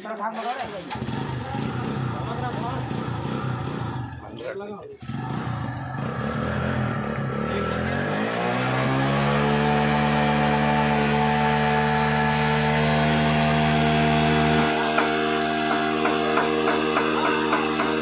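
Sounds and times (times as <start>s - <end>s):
water pump engine revving: 0.3s - 4.4s, 5.0s - 18.0s.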